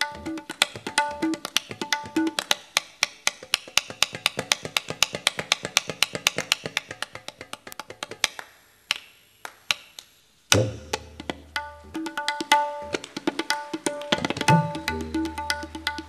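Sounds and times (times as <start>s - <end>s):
tabla and drum strokes: 0.0s - 16.0s.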